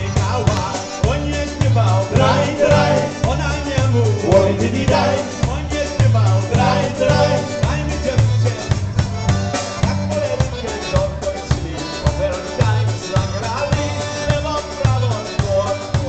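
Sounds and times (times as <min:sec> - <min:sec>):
man singing: 0:00.0 - 0:08.8, 0:10.0 - 0:16.0
polka band playing: 0:00.0 - 0:16.0.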